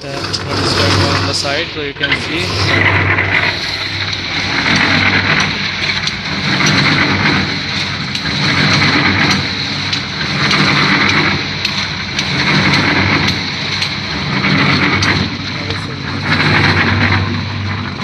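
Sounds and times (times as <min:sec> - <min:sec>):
diesel engine running under load: 0:00.0 - 0:18.0.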